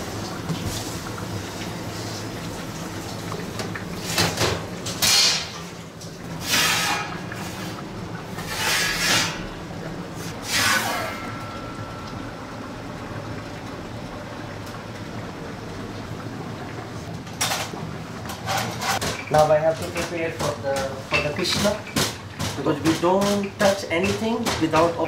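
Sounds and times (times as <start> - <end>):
steady low hum: 0.0 - 21.1.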